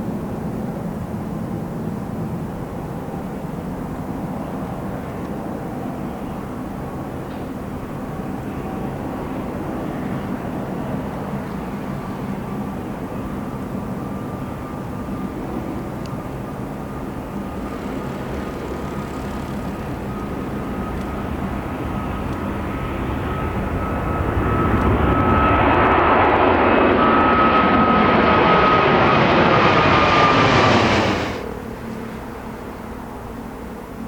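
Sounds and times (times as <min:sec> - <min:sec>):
airliner passing overhead: 0:00.0 - 0:34.0.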